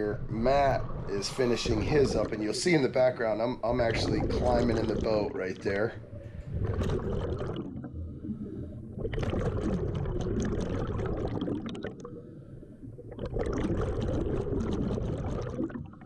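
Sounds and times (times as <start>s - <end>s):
underwater exhaled bubbles: 0.0s - 16.0s.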